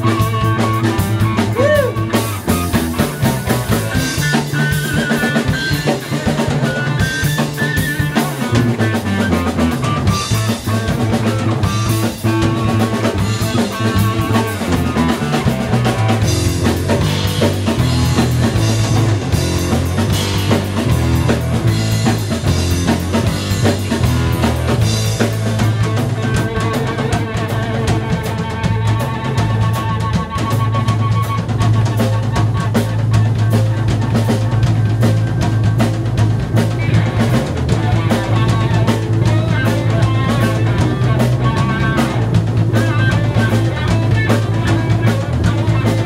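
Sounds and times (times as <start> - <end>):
drum kit beat: 0.0 - 46.0
electric bass guitar: 0.0 - 46.0
electric guitar: 0.0 - 46.0.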